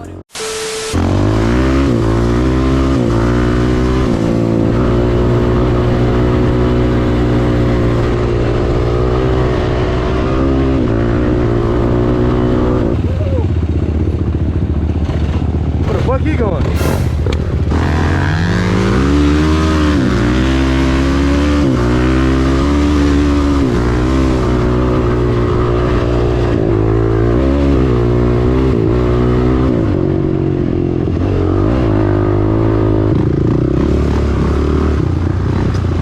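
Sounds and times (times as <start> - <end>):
dirt bike engine revving: 0.0 - 13.0, 14.9 - 35.7.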